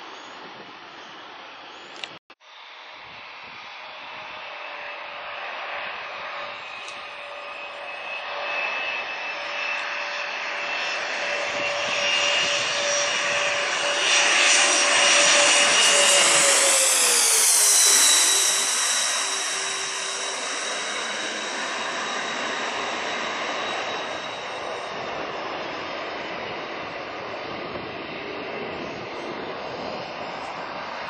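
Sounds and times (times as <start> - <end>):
jet airliner roaring overhead: 0.0 - 31.0.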